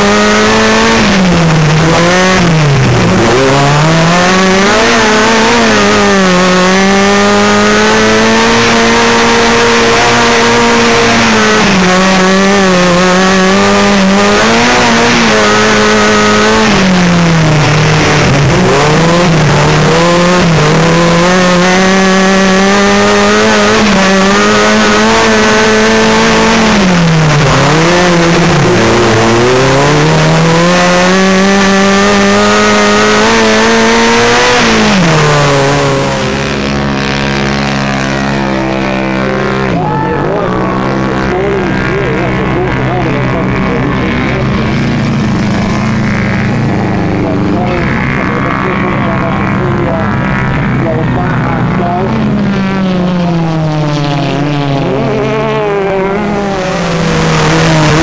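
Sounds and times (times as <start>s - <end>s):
buggy engine at high revs: 0.0s - 58.0s.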